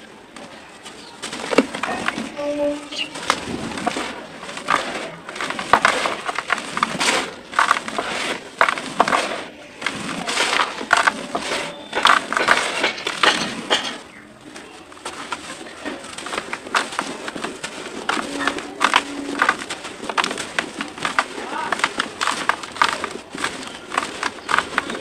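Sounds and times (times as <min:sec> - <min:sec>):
hands crumbling dry dirt: 0:00.0 - 0:25.0.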